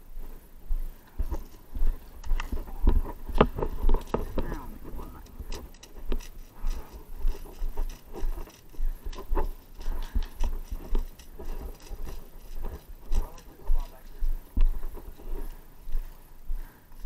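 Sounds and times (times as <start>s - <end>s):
footsteps on gravel: 0.2s - 17.0s.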